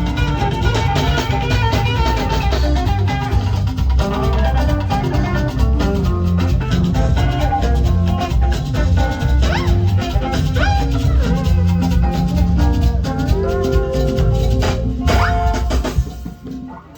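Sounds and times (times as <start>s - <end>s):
bass line: 0.0s - 16.6s
drums: 0.0s - 16.9s.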